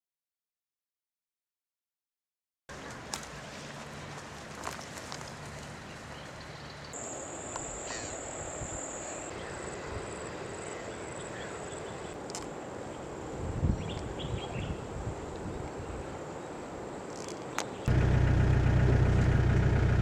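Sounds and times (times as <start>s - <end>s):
outdoor ambience: 2.7s - 20.0s.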